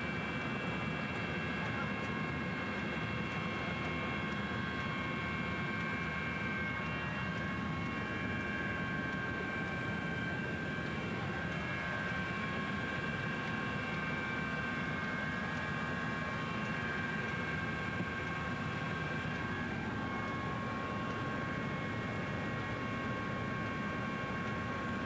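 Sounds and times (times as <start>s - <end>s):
helicopter engine and rotor: 0.0s - 25.0s
high steady whine: 0.0s - 25.0s.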